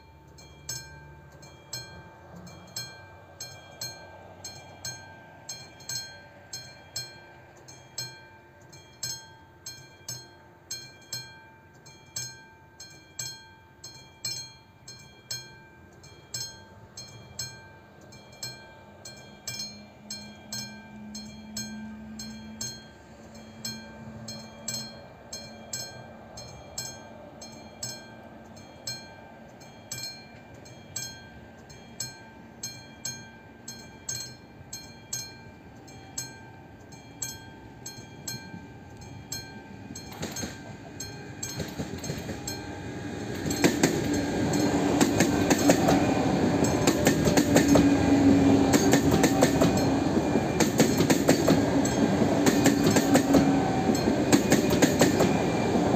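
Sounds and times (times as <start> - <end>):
approaching train hum: 0.0 - 55.9
level crossing bell ringing: 0.0 - 55.9.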